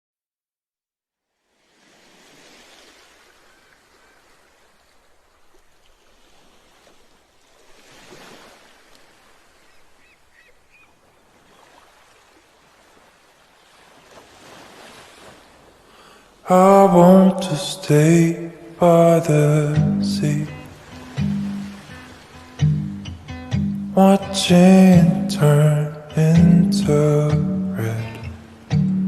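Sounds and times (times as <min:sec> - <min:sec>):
faint ocean waves: 0:01.4 - 0:29.0.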